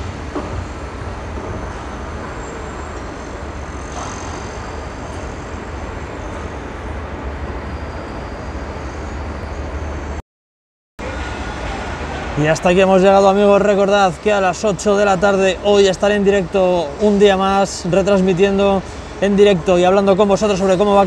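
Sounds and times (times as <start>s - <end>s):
city noise hiss: 0.0s - 10.2s, 11.0s - 21.0s.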